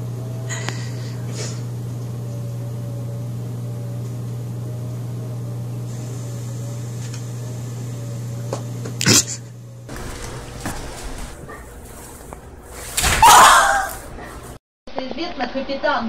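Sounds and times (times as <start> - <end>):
appliance humming: 0.0 - 14.6.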